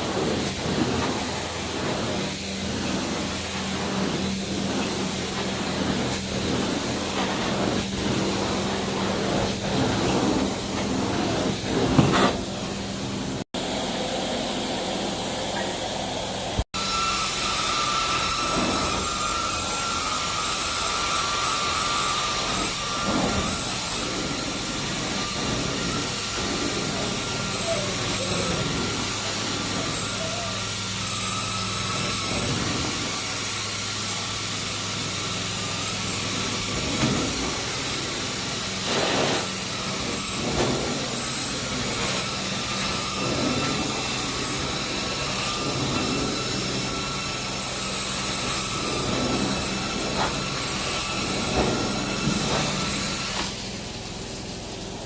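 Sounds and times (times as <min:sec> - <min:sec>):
carpet cleaning machine humming: 0:00.0 - 0:55.0.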